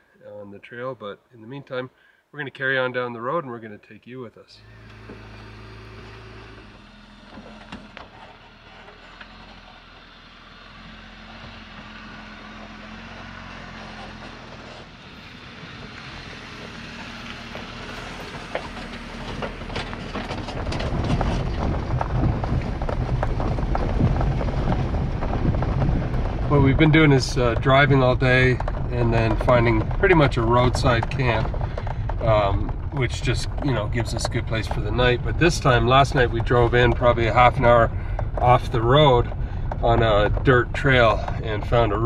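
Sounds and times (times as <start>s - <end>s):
gravel crackles: 3.4s - 42.0s
car engine running: 4.6s - 42.0s
tyre and road noise: 4.6s - 42.0s.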